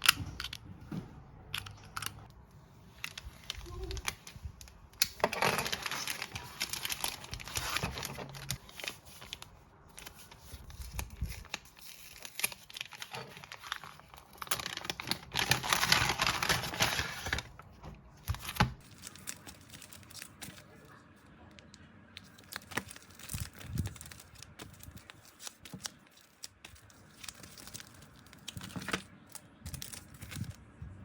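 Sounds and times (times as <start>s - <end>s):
plastic packaging crinkling: 2.9s - 21.0s, 21.6s - 30.7s.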